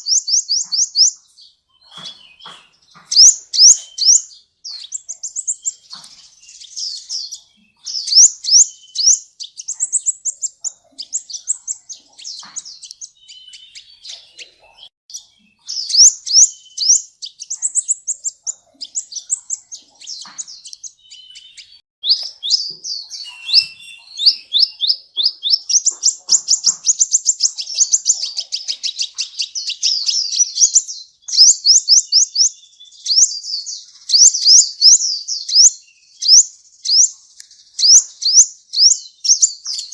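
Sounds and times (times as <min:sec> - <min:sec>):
bird chirping: 0:00.0 - 0:39.9
fast bird trill: 0:00.0 - 0:39.9.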